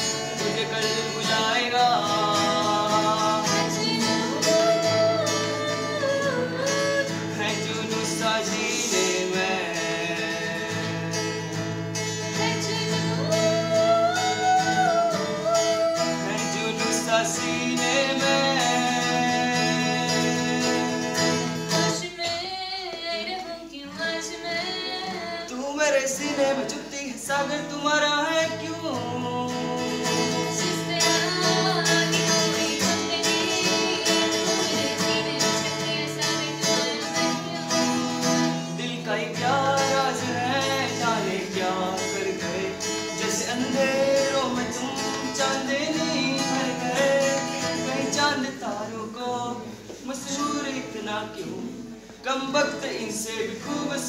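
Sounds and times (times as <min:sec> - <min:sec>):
person singing: 0:00.0 - 0:11.0, 0:12.2 - 0:54.0
acoustic guitar: 0:00.0 - 0:54.0.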